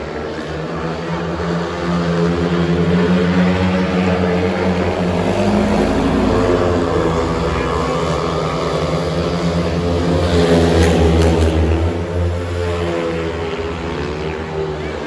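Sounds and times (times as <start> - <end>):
motorcycle engines racing: 0.0 - 15.0.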